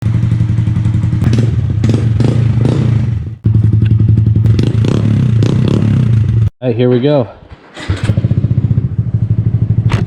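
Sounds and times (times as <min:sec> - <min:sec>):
motorcycle engine idling: 0:00.0 - 0:06.5, 0:08.2 - 0:10.0.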